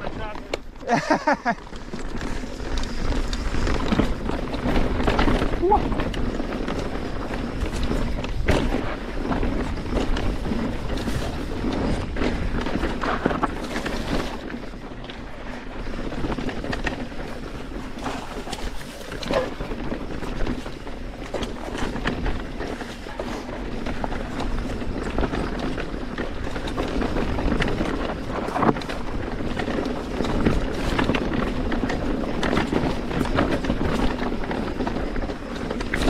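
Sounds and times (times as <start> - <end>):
bike tyres rolling over rocks: 0.0 - 36.0
wind rumble on microphone: 0.0 - 36.0.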